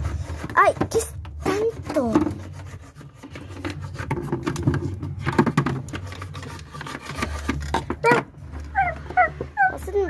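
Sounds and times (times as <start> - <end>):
plastic toys clicking and tapping: 0.0 - 10.0.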